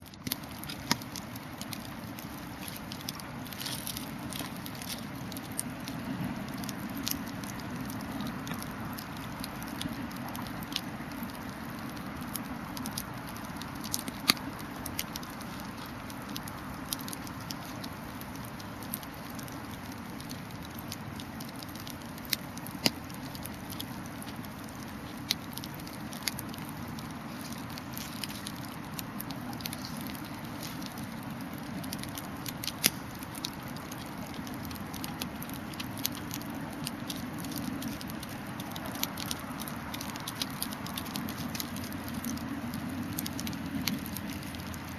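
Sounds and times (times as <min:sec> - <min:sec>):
bonfire hissing: 0:00.0 - 0:44.9
burning wood crackling and popping: 0:00.0 - 0:44.9.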